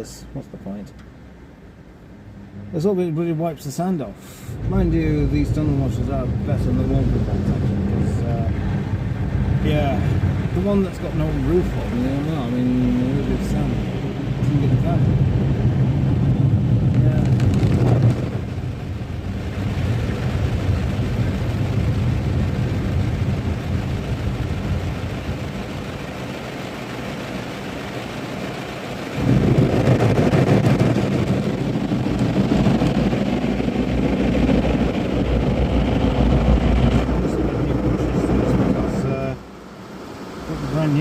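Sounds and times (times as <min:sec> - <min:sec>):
car wash water and machinery: 0:00.0 - 0:41.0.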